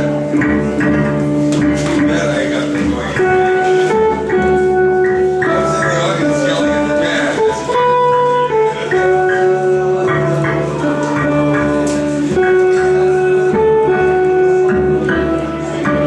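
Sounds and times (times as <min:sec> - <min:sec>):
guitar melody: 0:00.0 - 0:16.0
jazz band playing: 0:00.0 - 0:16.0.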